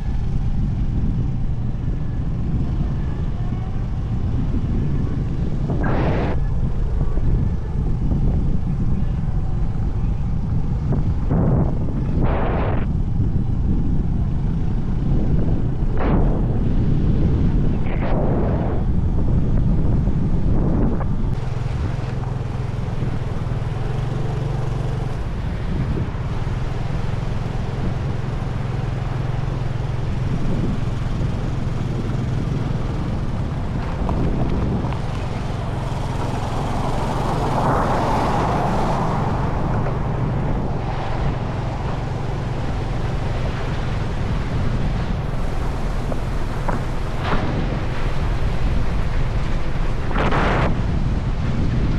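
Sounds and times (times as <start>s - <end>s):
motorbike engine hum: 0.0s - 51.9s
wind rushing over microphone: 0.0s - 51.9s.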